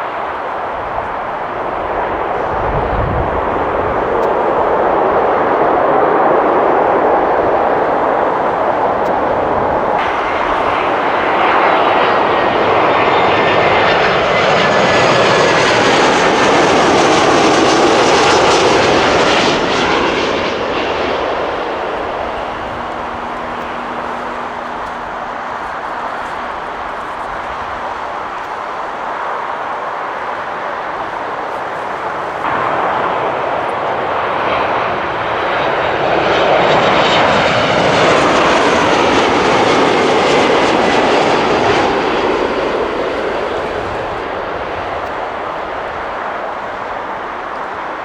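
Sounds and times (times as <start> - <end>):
jet airliner engine roar: 0.0 - 48.0.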